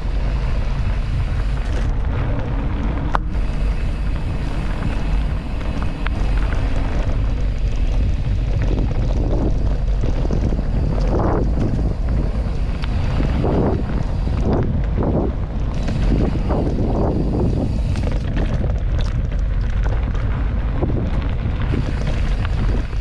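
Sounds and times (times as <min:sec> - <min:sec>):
tyres rolling over dirt: 0:00.0 - 0:23.0
wind buffeting microphone: 0:00.0 - 0:23.0
small knocks from bike: 0:00.9 - 0:23.0.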